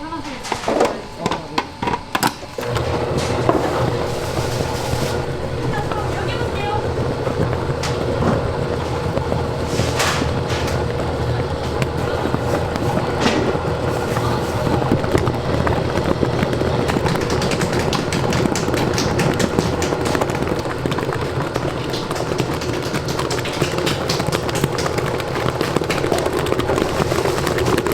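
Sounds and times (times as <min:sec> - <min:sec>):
machinery rumbling and humming: 0:00.0 - 0:27.9
fast clatter of clicks: 0:01.2 - 0:27.9.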